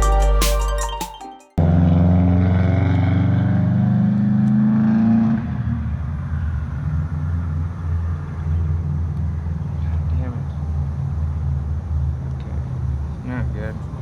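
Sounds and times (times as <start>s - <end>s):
car engine revving and idling: 1.6s - 14.0s.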